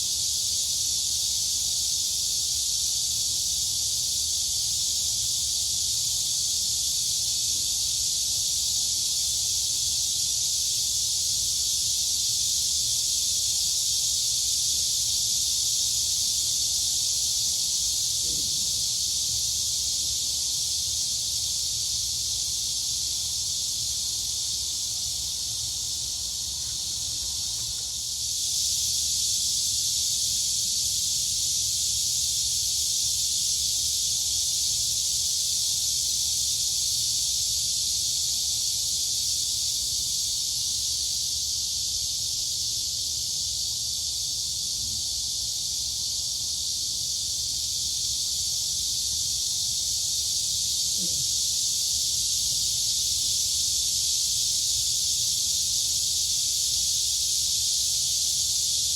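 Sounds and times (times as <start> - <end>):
crickets and cicadas droning: 0.0 - 58.9.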